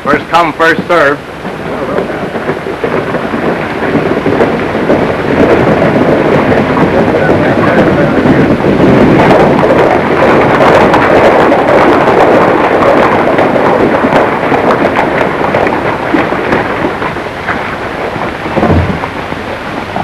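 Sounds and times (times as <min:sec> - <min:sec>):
horses' hooves clattering: 0:00.0 - 0:20.0
wagon wheels rumbling: 0:00.0 - 0:20.0.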